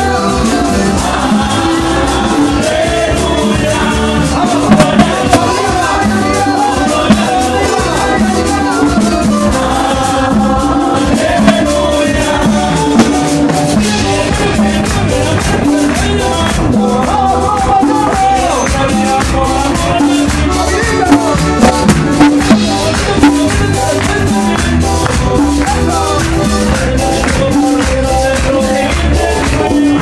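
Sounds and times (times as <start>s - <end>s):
accordion: 0.0s - 30.0s
drums: 0.0s - 30.0s
latin dance music: 0.0s - 30.0s
person singing: 0.0s - 30.0s.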